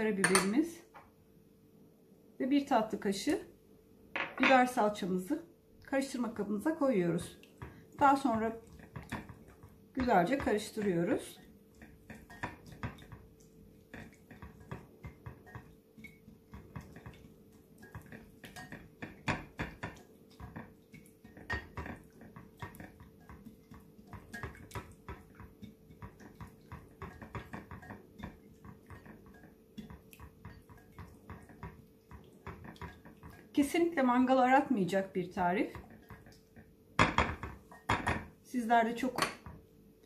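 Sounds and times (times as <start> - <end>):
whisk tapping glass bowl: 0.2 - 0.6, 6.2 - 39.6.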